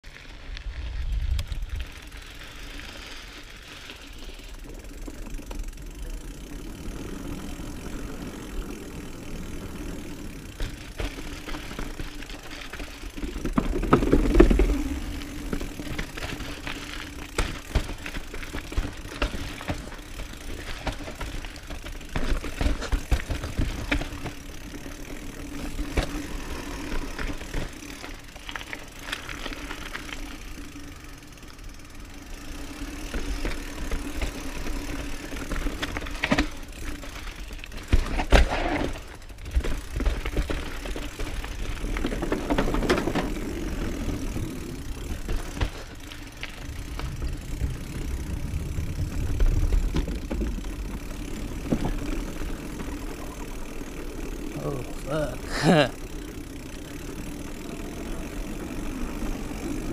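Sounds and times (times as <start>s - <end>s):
bike tyres rolling over dirt: 0.0s - 59.9s
bike rattling and knocking: 1.4s - 59.9s.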